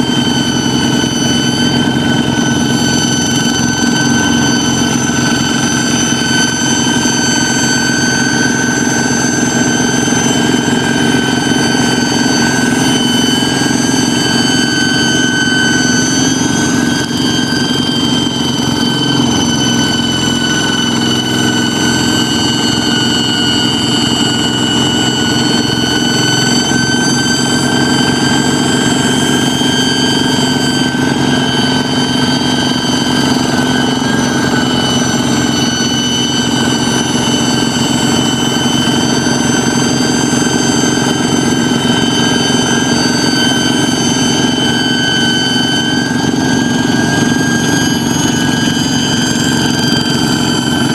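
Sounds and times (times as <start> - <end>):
diesel engine running: 0.0 - 50.9
high whistle: 0.0 - 50.9.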